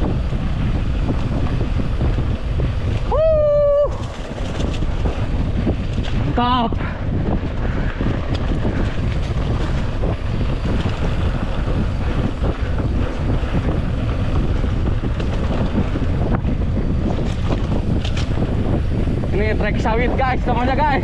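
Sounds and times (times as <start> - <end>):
wind on microphone: 0.0 - 21.0
bike knocks and rattles: 3.8 - 21.0.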